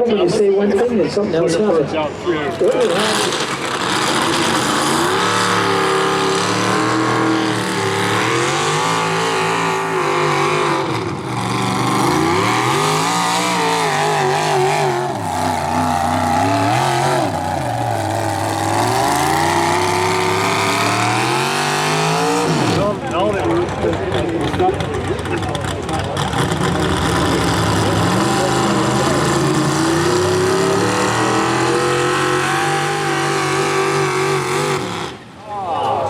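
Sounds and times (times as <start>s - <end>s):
tractor engine revving: 2.1s - 35.4s.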